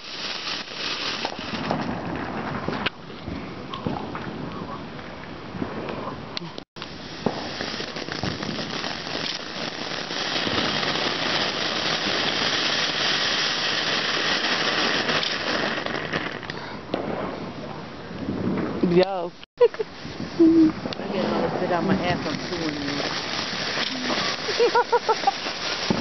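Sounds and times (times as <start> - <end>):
firework fountain hissing and crackling: 0.0 - 26.0.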